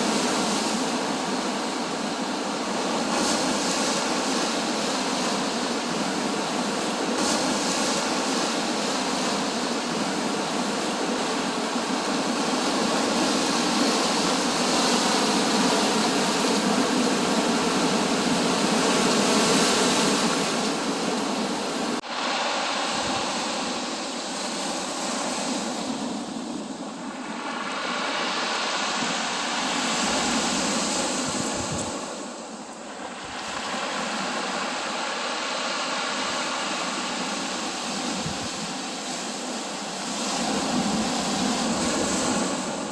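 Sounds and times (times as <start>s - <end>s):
sea waves breaking ashore: 0.0s - 42.9s.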